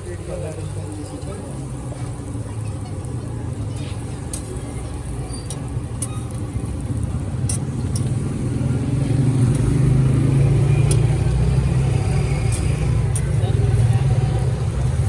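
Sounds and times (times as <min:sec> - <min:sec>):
street noise: 0:00.0 - 0:15.0
vehicle engine running: 0:00.7 - 0:15.0.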